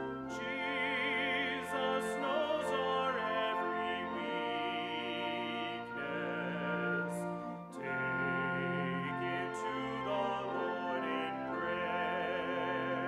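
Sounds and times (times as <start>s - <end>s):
chamber trio with flute and cello: 0.0s - 13.0s.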